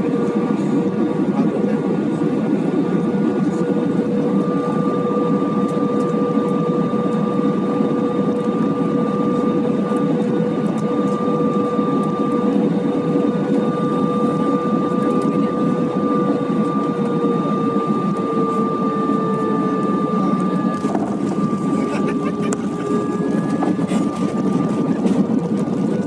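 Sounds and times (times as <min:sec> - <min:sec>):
airliner cabin rumble: 0:00.0 - 0:26.0
steady humming tones: 0:00.0 - 0:26.0.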